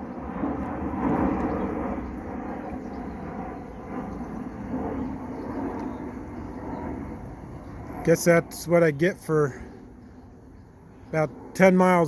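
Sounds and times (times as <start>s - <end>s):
airplane rushing rumble: 0.0s - 12.0s.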